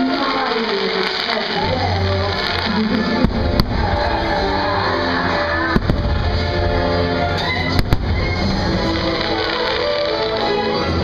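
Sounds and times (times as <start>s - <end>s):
fireworks bangs: 0.0s - 10.6s
orchestral music: 0.0s - 11.0s.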